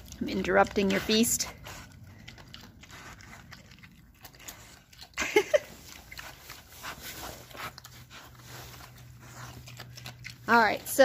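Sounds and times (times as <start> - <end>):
pig chewing and crunching: 0.0 - 11.0.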